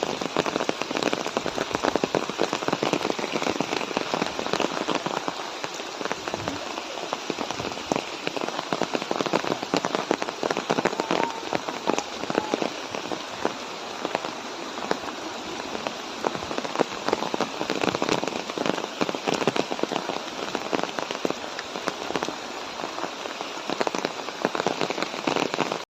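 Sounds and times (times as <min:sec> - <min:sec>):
raindrops ticking on hard surface: 0:00.0 - 0:25.8
rain falling: 0:00.0 - 0:25.9.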